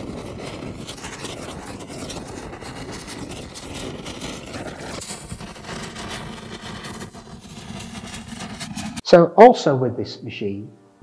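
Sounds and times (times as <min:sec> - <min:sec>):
dense crackling noise: 0:00.0 - 0:09.2.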